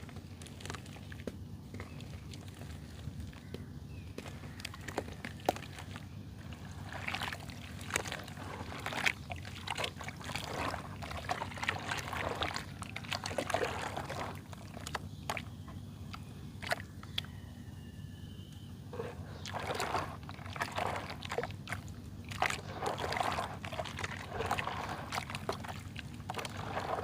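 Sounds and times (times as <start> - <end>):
wet mud crackling: 0.0 - 16.9, 18.9 - 27.0
faint low hum: 0.0 - 27.0.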